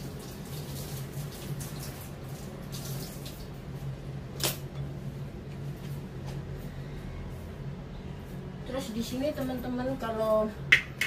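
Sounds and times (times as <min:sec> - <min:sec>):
steady low hum: 0:02.0 - 0:11.0.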